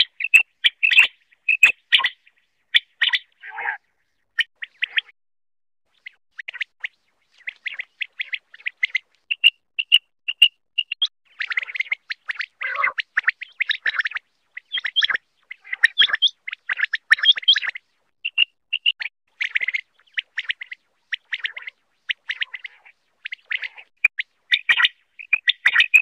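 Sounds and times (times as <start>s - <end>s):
quail calling: 0.0s - 3.9s, 7.4s - 26.0s.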